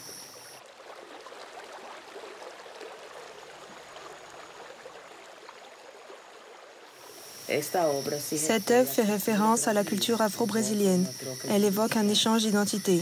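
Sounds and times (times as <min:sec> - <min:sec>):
running water babbling: 0:00.0 - 0:13.0.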